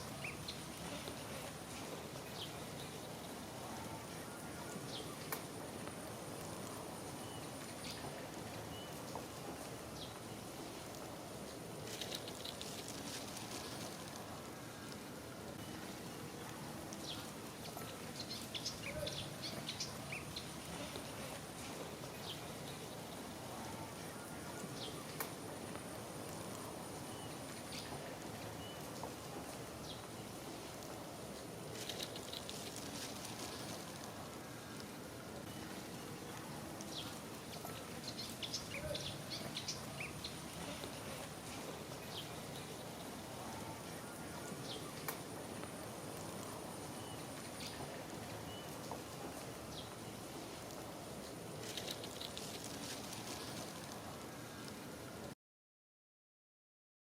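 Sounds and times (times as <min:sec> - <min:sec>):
outdoor background noise: 0:00.0 - 0:55.4.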